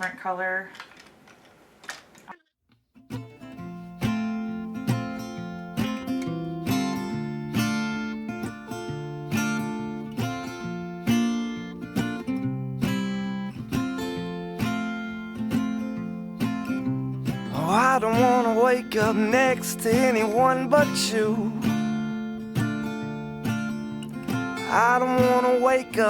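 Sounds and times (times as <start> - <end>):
acoustic guitar strumming chords: 3.1 - 26.0.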